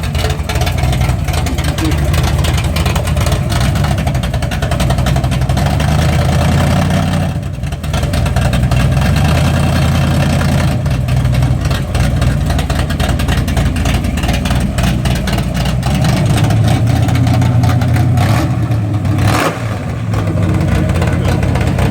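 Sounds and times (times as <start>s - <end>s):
truck engine running loudly: 0.0s - 21.9s.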